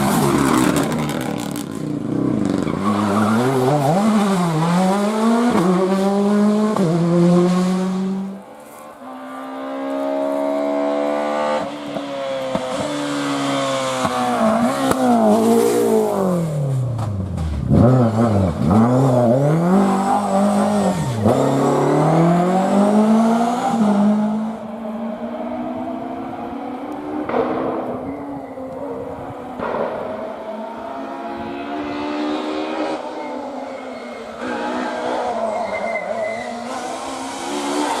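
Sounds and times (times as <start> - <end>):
rally car engine revving: 0.0 - 8.4, 9.2 - 38.0.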